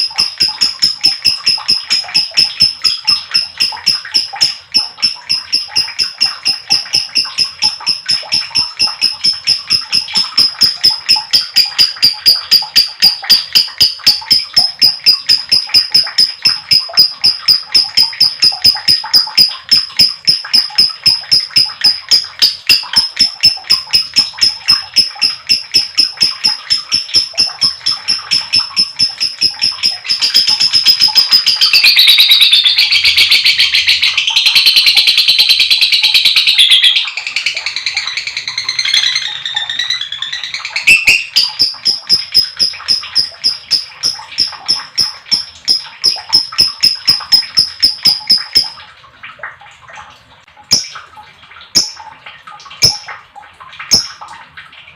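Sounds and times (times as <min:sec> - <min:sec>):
lovebird chattering call: 0:00.0 - 0:48.8.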